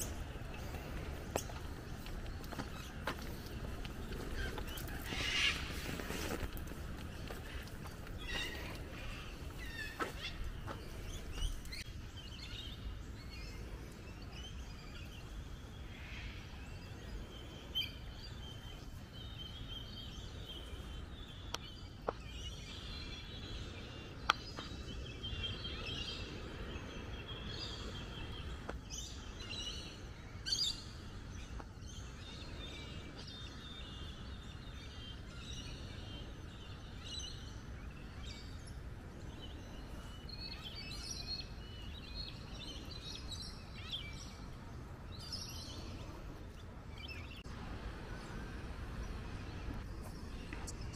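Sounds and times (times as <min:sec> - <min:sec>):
birds chirping and calling: 0:00.0 - 0:47.5.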